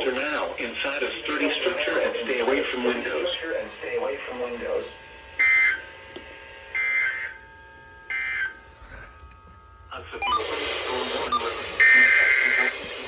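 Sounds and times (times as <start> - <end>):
noisy radio broadcast audio: 0.0 - 13.0.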